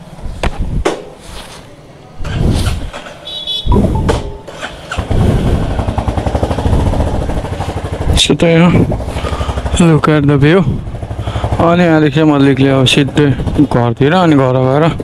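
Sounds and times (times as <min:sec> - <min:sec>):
motorcycle engine starting and idling: 0:02.2 - 0:03.3, 0:03.9 - 0:15.0.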